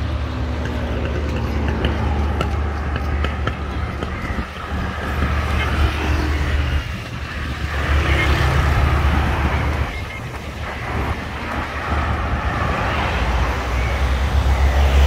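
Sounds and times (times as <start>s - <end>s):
motor scooters passing: 0.0s - 15.0s.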